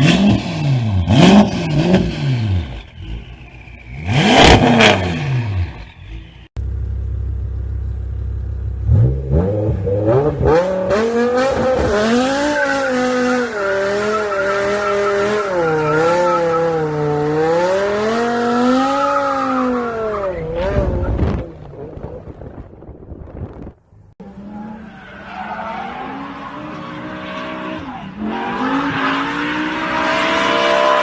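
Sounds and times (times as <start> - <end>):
car engine revving: 0.0 - 22.5, 24.2 - 31.0.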